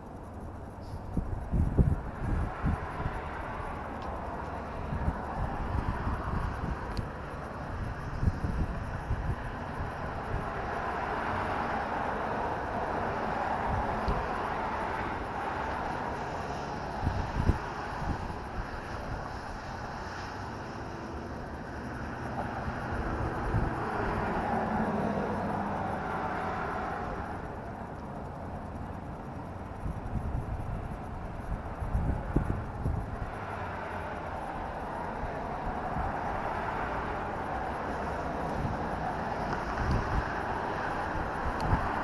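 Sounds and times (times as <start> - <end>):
wind rushing on microphone: 0.0 - 42.0.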